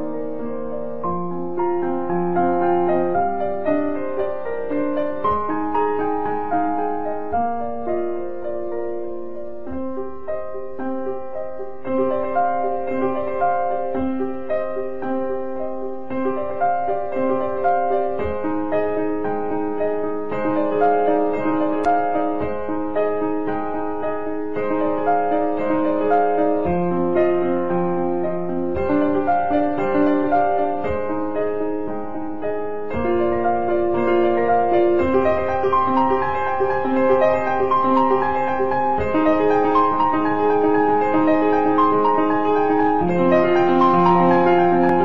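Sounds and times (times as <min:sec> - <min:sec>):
slow gentle piano music: 0:00.0 - 0:45.0.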